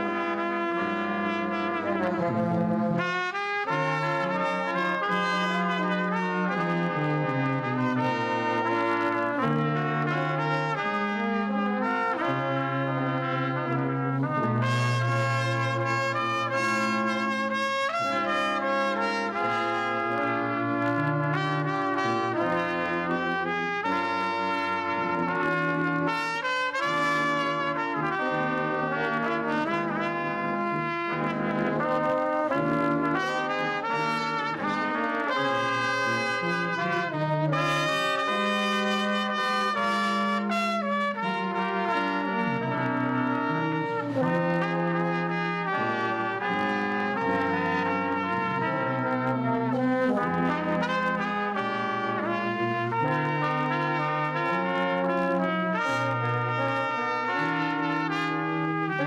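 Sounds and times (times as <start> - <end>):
brass ensemble playing: 0.0 - 59.0.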